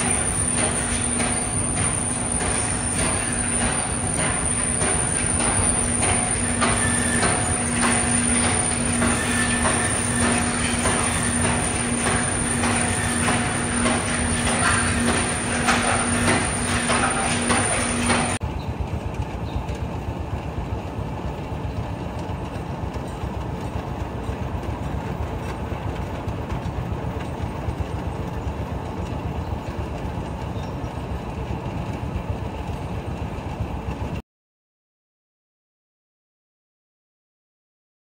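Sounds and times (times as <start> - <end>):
conveyor machinery rumbling: 0.0 - 34.2
steady machine hum: 0.0 - 34.2.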